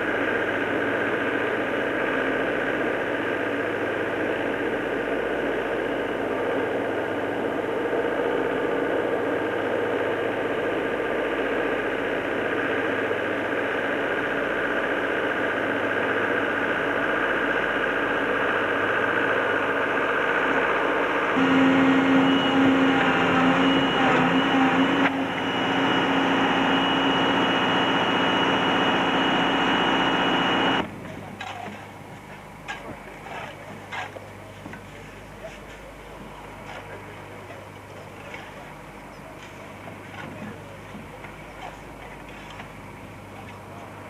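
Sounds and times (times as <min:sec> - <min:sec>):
digger engine running: 0:00.0 - 0:44.0.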